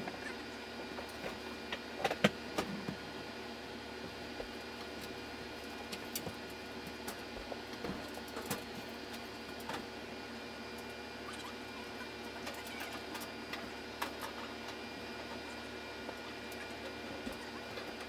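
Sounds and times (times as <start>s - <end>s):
steady indoor hum: 0.0s - 18.0s.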